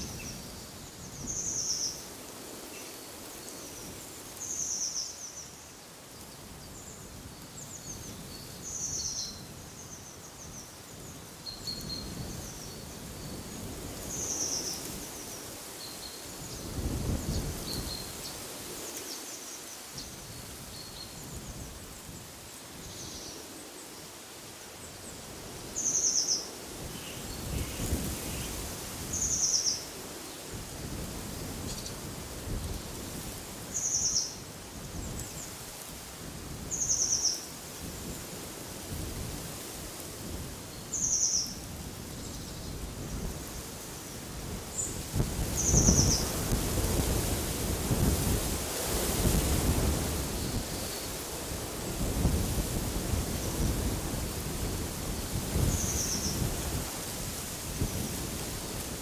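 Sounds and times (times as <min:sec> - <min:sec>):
wind rumble on microphone: 0:00.0 - 0:05.0, 0:06.2 - 0:19.0, 0:19.9 - 0:23.5, 0:24.8 - 0:59.0
wind hiss: 0:00.0 - 0:59.0.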